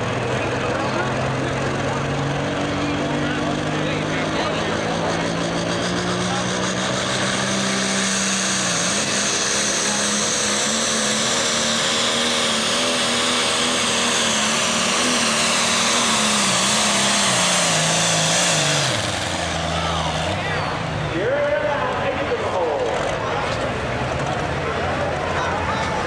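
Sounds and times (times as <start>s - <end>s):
diesel tractor engine at full power: 0.0s - 26.0s.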